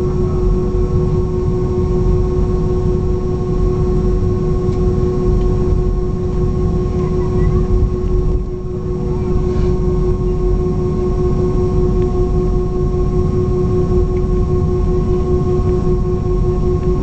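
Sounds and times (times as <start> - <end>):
airplane cabin rumble: 0.0 - 17.0
constant whining tones: 0.0 - 17.0.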